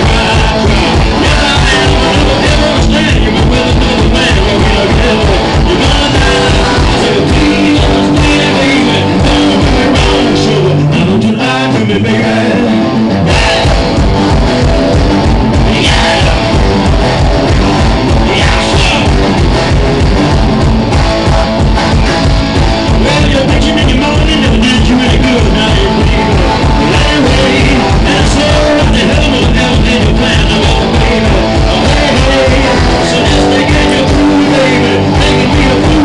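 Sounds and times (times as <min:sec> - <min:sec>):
foot-stomped beat: 0:00.0 - 0:10.4, 0:13.3 - 0:36.0
man singing: 0:00.0 - 0:14.0, 0:15.4 - 0:19.4, 0:22.8 - 0:36.0
electric guitar: 0:00.0 - 0:36.0.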